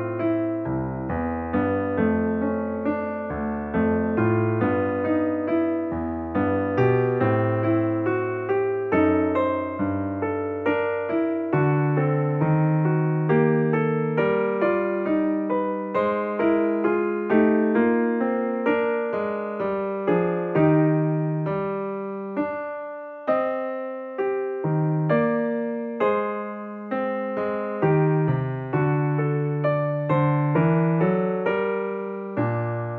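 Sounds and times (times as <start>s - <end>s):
calm piano music: 0.0s - 32.9s.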